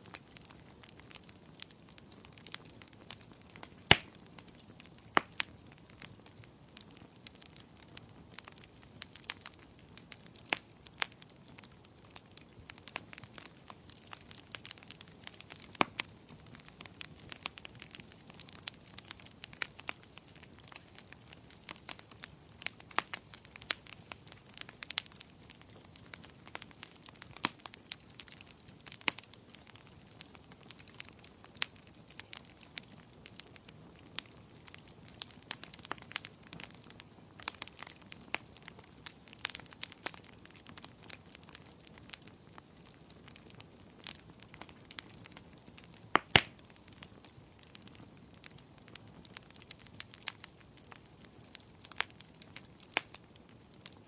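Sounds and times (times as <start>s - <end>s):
low hiss of burning: 0.0s - 54.0s
wood fire crackling and popping: 0.0s - 54.0s.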